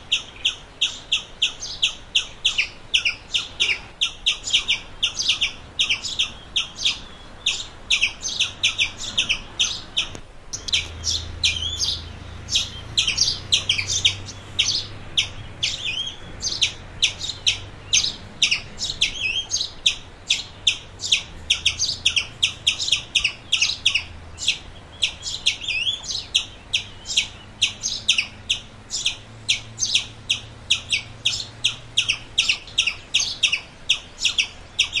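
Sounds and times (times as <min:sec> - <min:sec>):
squirrel chirping: 0:00.0 - 0:35.0.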